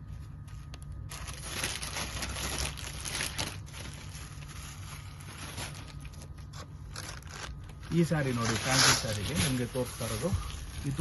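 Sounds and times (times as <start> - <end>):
fabric and wrapping crinkling: 0.0 - 11.0
steady low hum: 0.0 - 11.0.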